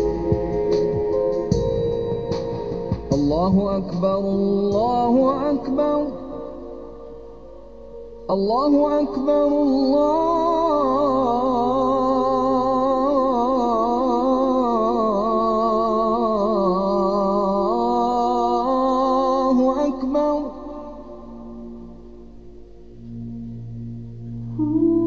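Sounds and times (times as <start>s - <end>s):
solo voice chanting: 0.0s - 1.7s, 3.1s - 22.8s, 24.4s - 25.0s.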